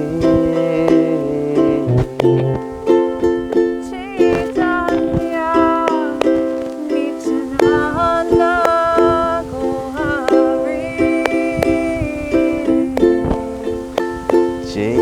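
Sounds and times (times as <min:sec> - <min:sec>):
person singing a chant: 0:00.0 - 0:02.7, 0:03.8 - 0:15.0
ukulele strummed: 0:00.0 - 0:15.0.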